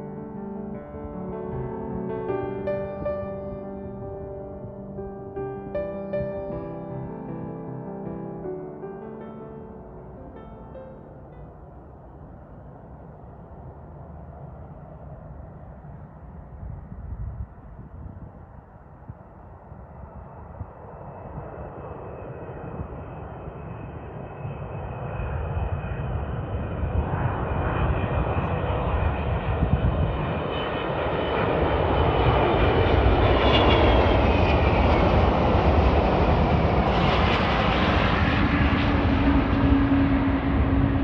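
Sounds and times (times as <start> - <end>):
jet airliner engine noise: 0.0 - 41.0.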